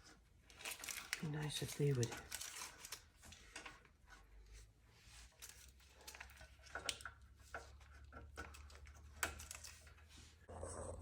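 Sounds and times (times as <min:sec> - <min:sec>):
wiring rustling and clicking: 0:00.0 - 0:04.2, 0:05.2 - 0:10.2.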